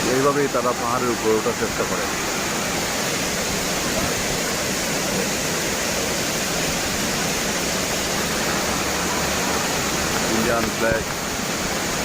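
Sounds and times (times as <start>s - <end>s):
waterfall splashing onto rock: 0.0s - 12.0s.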